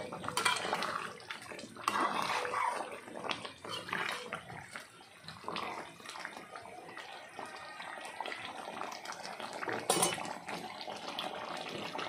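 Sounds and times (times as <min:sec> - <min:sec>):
curry bubbling at a boil: 0:00.0 - 0:12.0.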